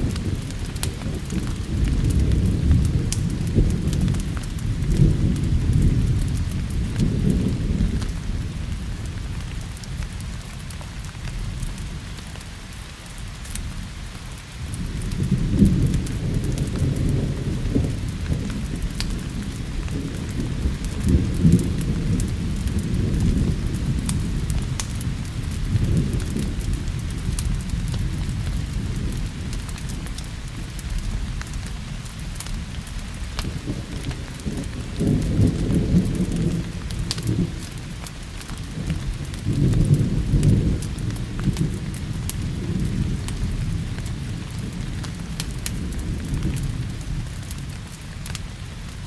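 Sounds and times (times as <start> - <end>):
rolling thunder: 0.0 - 10.7, 14.6 - 49.0
steady rain: 0.0 - 49.0.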